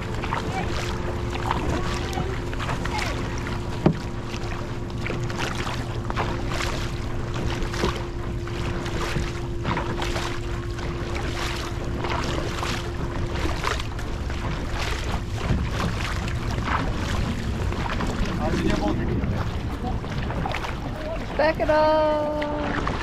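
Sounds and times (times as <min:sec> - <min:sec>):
low rumble: 0:00.0 - 0:23.0
paddles splashing in water: 0:00.0 - 0:23.0.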